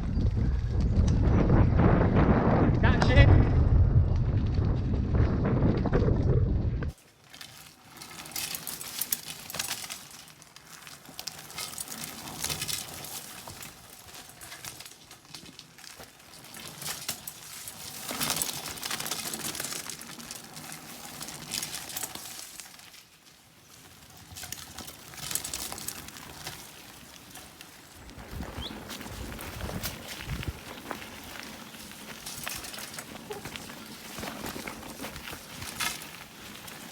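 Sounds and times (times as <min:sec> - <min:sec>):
bike rattles and clicks: 0:00.0 - 0:36.9
tyres crunching on gravel: 0:06.9 - 0:36.9.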